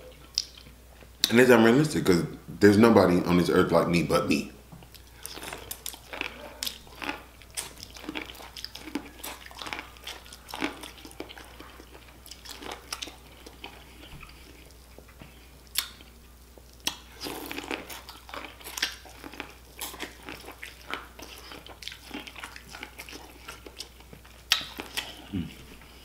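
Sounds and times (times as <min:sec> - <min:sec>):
person chewing corn crunches: 0:04.9 - 0:26.0.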